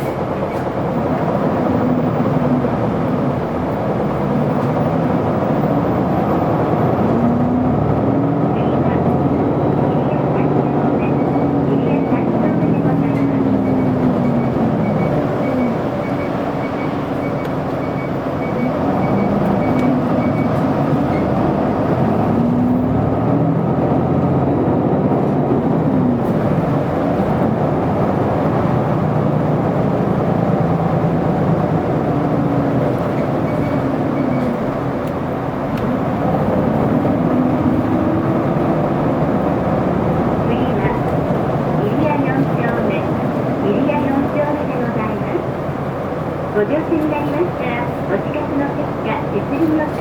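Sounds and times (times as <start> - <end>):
bus diesel engine accelerating: 0.0 - 50.0
road and tyre noise: 0.0 - 50.0.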